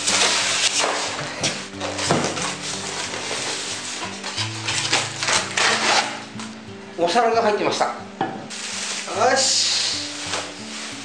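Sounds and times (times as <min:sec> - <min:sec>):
packaging rustling and scraping: 0:00.0 - 0:06.6, 0:08.5 - 0:11.0
background music: 0:00.0 - 0:11.0.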